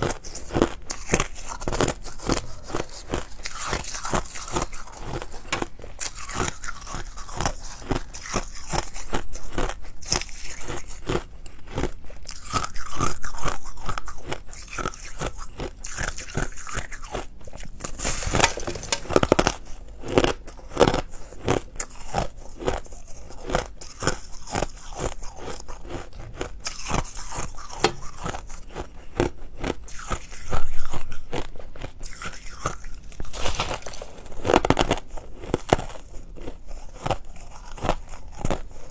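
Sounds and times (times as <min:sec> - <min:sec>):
ice being crunched and chewed: 0:00.0 - 0:38.9.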